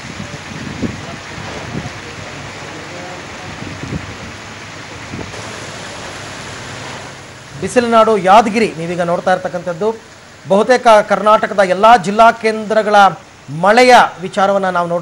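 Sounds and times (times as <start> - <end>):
heavy rain on ground and trees: 0.0 - 15.0.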